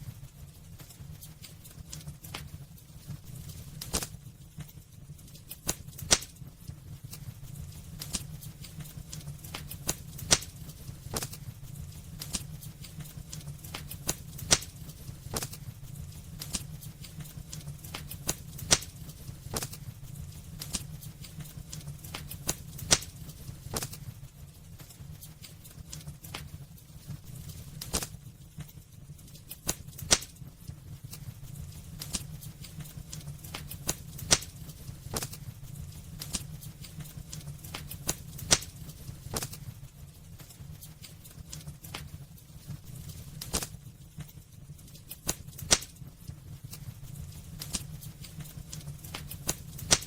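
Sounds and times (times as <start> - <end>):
low fire rumble: 0.0 - 50.0
wood fire crackling and popping: 0.0 - 50.0.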